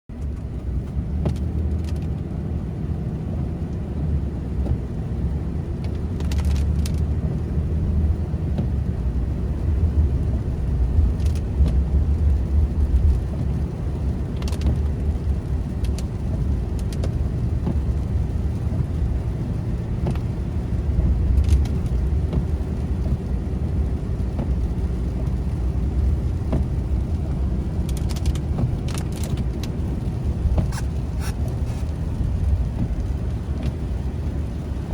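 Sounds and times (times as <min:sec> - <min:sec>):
car rumbling in motion: 0:00.1 - 0:34.9.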